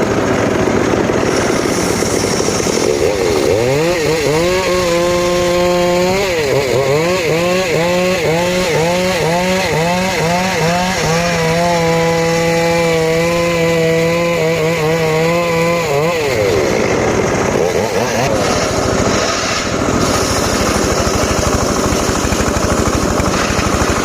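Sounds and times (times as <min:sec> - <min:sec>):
small petrol saw engine running: 0:00.0 - 0:24.0.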